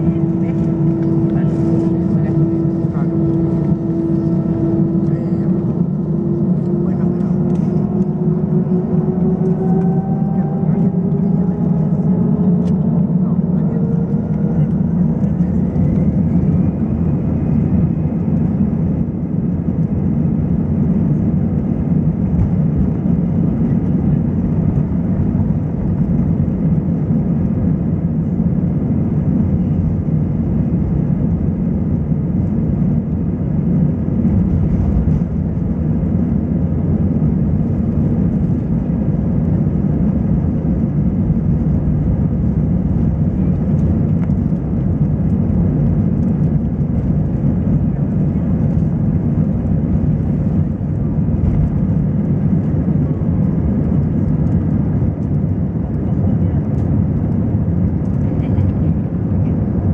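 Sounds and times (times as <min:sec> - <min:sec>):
airliner cabin engine roar: 0:00.0 - 0:59.9.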